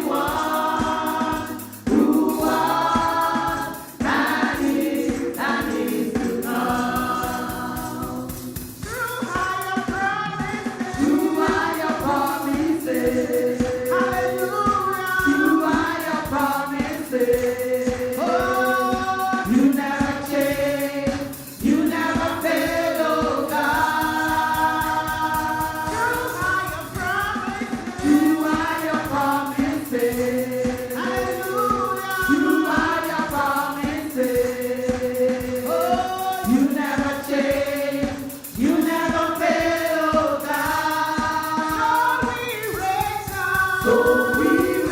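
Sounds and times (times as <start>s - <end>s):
band playing steady beat: 0.0s - 44.9s
group singing gospel song: 0.0s - 44.9s.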